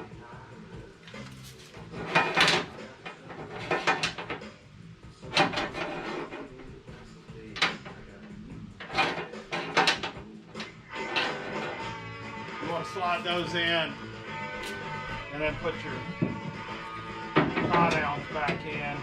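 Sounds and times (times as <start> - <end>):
metal brackets clattering and scraping: 1.1 - 13.9, 14.5 - 19.0.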